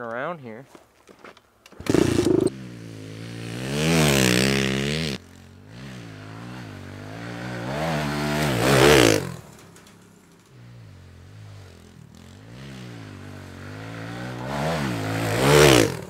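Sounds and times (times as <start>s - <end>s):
small motorbike engine revving: 1.8s - 9.6s, 10.6s - 16.0s.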